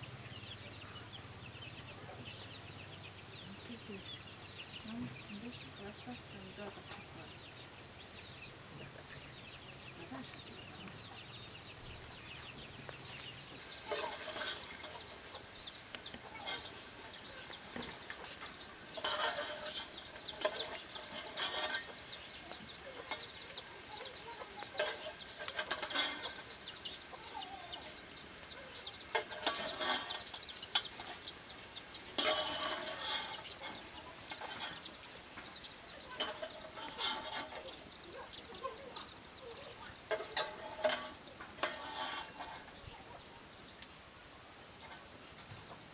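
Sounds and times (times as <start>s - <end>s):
chickens clucking: 8.7s - 45.9s.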